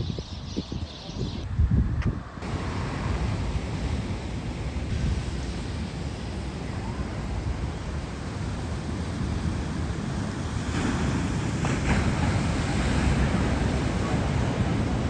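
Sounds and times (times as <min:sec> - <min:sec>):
wind buffeting microphone: 0:00.0 - 0:15.0
surf washing: 0:02.4 - 0:15.0.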